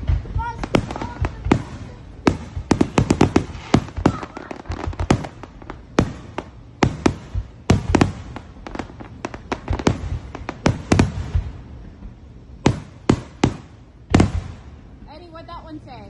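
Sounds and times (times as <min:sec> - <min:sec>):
fireworks bangs: 0:00.0 - 0:15.6.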